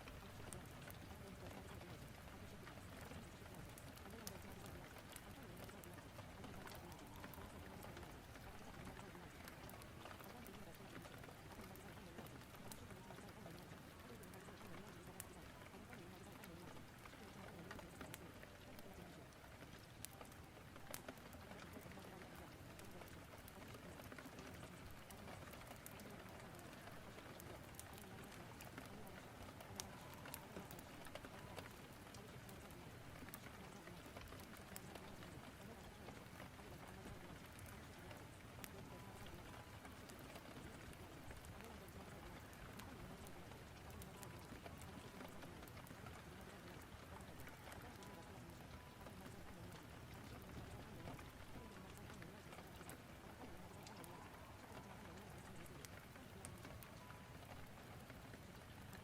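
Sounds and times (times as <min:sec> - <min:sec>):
fireplace crackles: 0:00.0 - 0:59.0.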